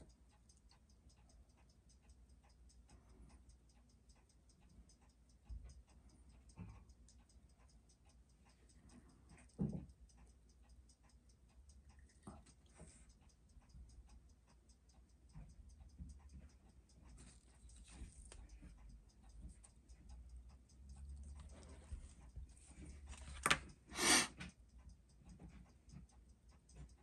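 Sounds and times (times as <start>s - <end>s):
watch ticking: 0.0s - 27.0s.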